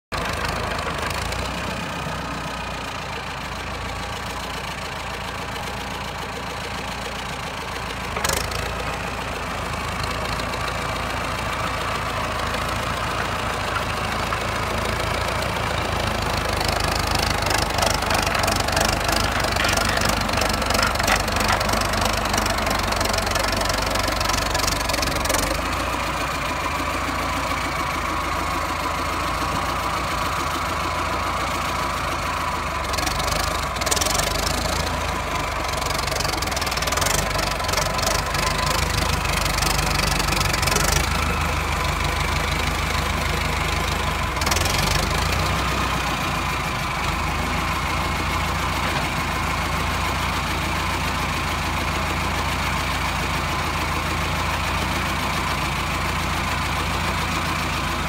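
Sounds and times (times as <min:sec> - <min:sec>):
diesel engine running: 0:00.1 - 0:58.0.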